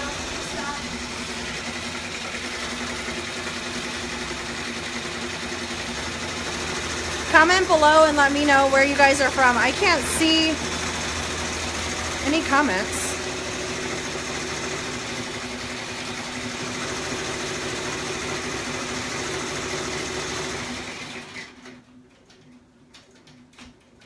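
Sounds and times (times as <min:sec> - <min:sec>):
embroidery machine stitching: 0:00.0 - 0:21.8.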